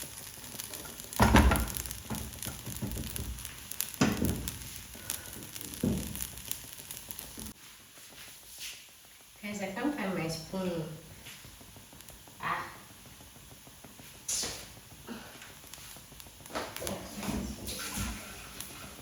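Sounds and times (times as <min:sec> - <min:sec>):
rice sizzling in oil: 0:00.0 - 0:19.0.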